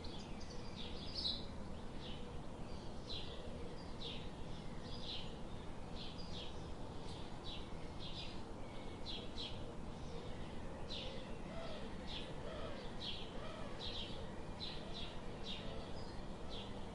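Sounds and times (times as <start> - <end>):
background hiss: 0.0 - 16.9.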